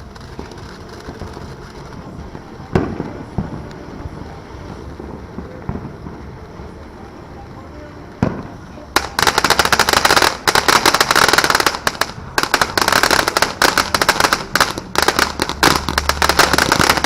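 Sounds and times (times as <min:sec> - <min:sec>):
fireworks cracking: 0:00.0 - 0:17.0.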